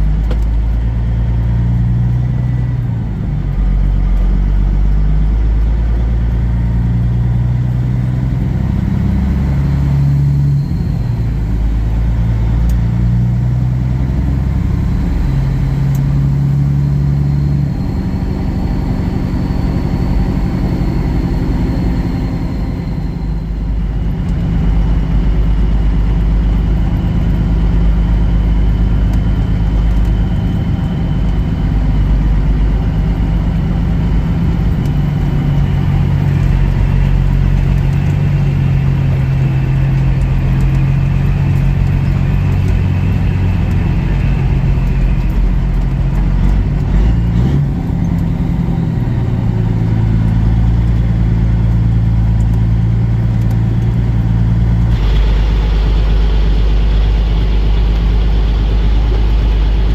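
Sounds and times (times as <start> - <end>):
truck diesel engine driving: 0.0 - 59.9.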